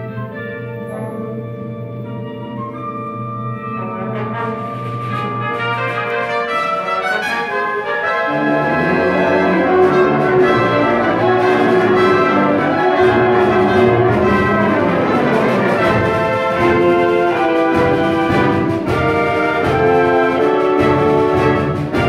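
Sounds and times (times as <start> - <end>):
concert band playing: 0.0 - 22.0.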